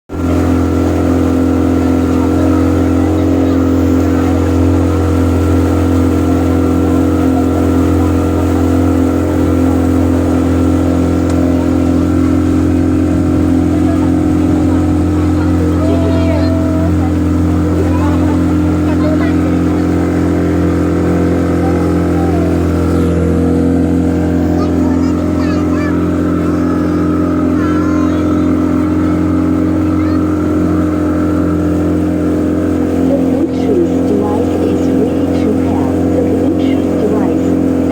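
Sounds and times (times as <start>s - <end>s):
motorboat engine droning: 0.1s - 37.9s.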